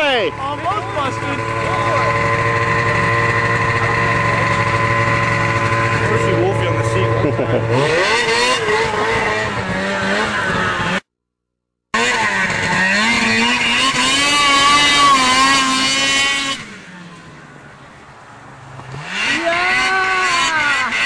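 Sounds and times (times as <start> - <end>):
snowmobile engine revving: 0.0 - 11.1, 11.9 - 17.6, 18.6 - 21.0.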